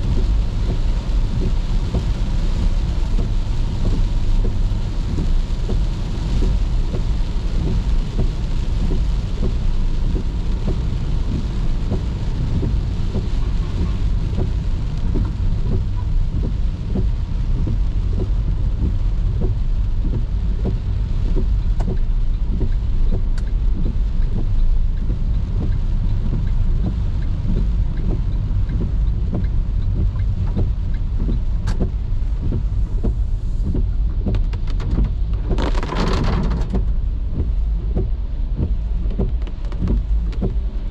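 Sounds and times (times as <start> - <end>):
engine and tyres on wet road: 0.0 - 40.9
raindrops tapping on car: 0.0 - 40.9.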